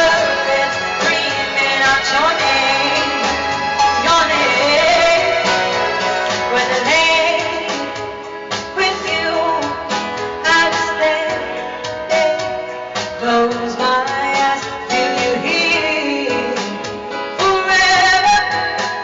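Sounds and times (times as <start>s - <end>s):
instrumental backing music: 0.0s - 19.0s
person singing: 0.0s - 19.0s.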